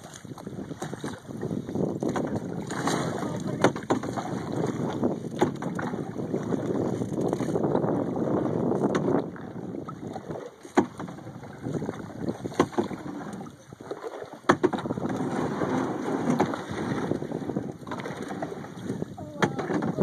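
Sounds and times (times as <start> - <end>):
low water rush: 0.0 - 20.0
paddle knocking against canoe: 0.0 - 20.0
water splashing: 0.0 - 20.0.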